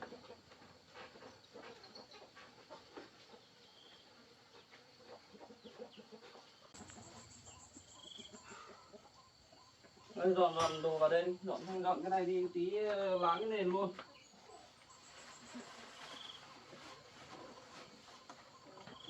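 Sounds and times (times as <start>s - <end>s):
chickens chirping: 0.0s - 10.7s, 13.3s - 19.0s.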